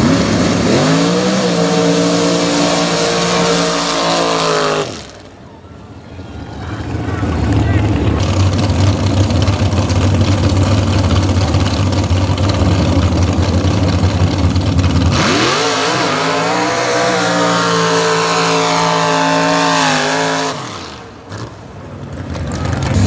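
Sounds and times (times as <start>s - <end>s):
truck engine idling and revving: 0.0s - 23.0s.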